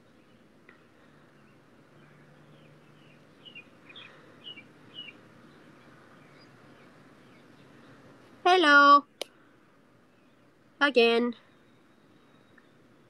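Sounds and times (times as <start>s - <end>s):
bird chirping: 0.0s - 10.6s, 11.3s - 13.0s.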